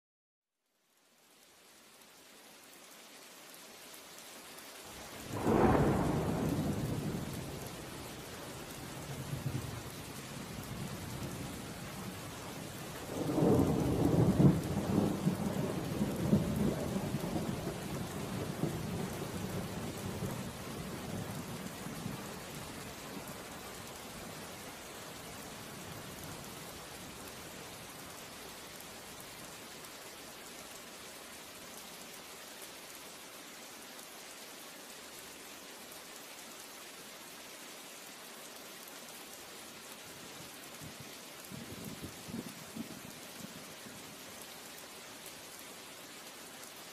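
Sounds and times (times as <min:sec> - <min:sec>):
steady rain: 0:00.5 - 0:46.9.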